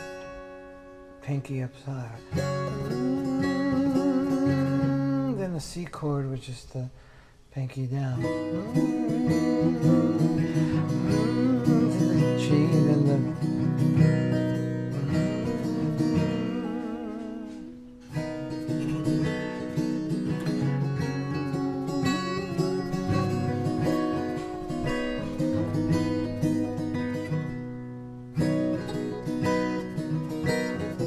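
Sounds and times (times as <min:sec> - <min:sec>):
guitar playing chords: 0:00.0 - 0:05.8, 0:08.1 - 0:31.0.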